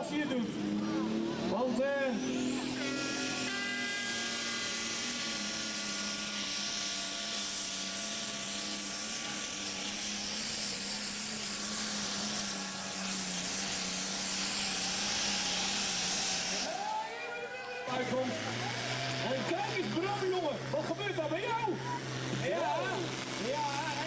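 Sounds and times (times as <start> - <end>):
pulling tractor engine: 0.0 - 17.1, 17.7 - 24.0
high-pitched whine: 0.0 - 24.0.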